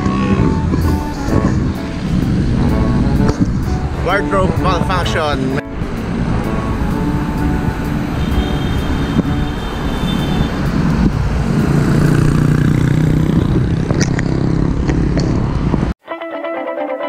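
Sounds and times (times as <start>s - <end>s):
road traffic rumbling: 0.0s - 16.0s
vehicle engine hum: 0.0s - 16.0s.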